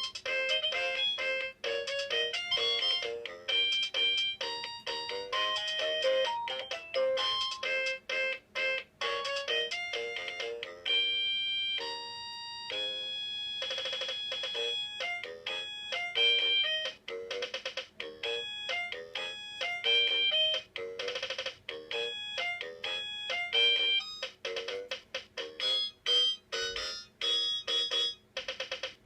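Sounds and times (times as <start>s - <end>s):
toy keyboard electronic melody: 0.0s - 29.0s.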